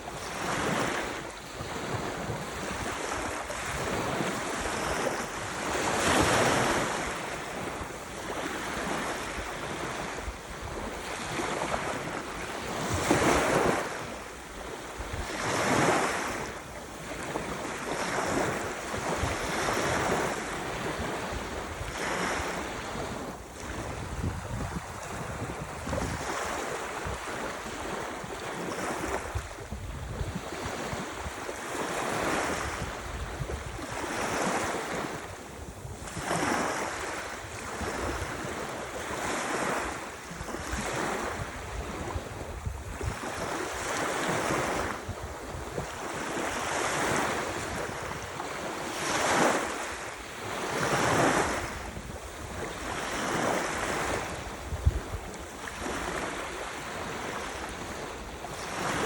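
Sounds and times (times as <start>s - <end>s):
waves breaking: 0.0s - 59.0s
wind on microphone: 0.0s - 59.0s.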